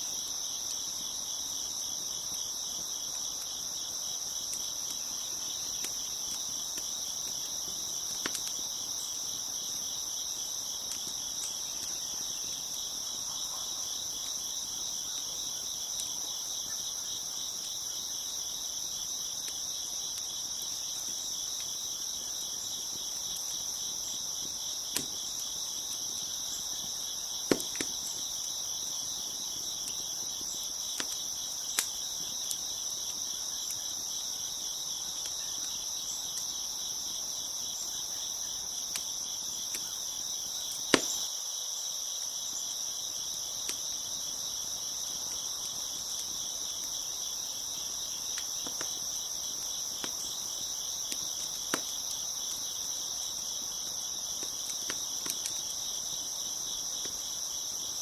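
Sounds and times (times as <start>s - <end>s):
crickets chirping: 0.0s - 58.0s
wood fire crackling and popping: 0.1s - 37.3s, 38.1s - 40.2s, 40.8s - 41.3s, 43.1s - 58.0s.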